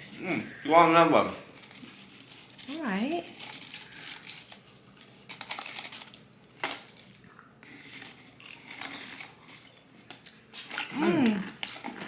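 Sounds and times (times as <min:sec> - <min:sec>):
hands rustling crisp tube: 0:01.4 - 0:12.0.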